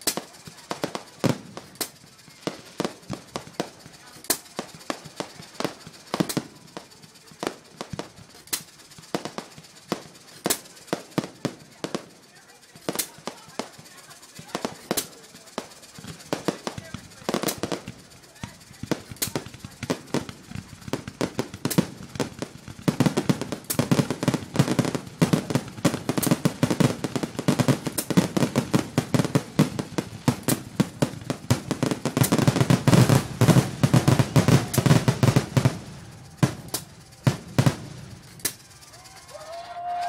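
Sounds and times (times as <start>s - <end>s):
fireworks bursts and bangs: 0.0s - 40.0s.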